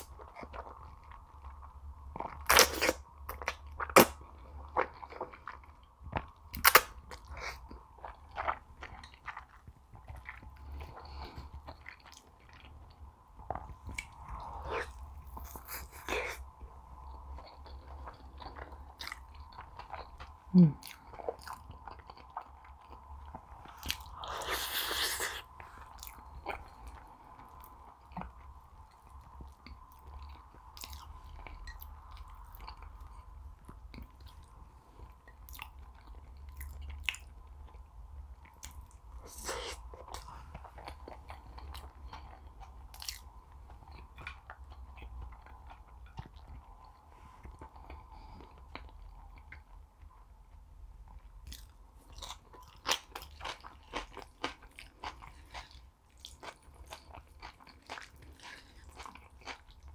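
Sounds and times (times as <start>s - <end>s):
faint steady hum: 0.0s - 59.9s
person chewing: 0.0s - 59.9s.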